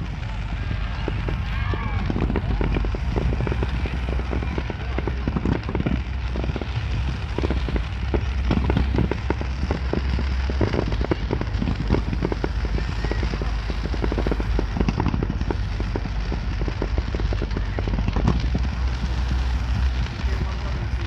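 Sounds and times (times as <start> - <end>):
fireworks bangs and crackles: 0.0 - 21.0
low rumble: 0.0 - 21.0.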